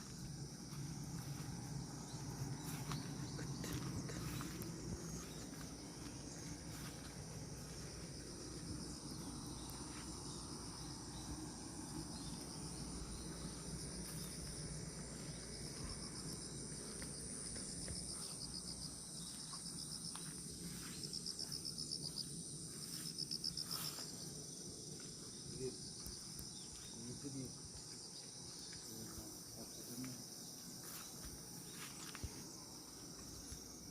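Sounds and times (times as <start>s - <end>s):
crickets and insects chirping: 0.0s - 33.9s
rapid pulsing insect trill: 0.0s - 33.9s.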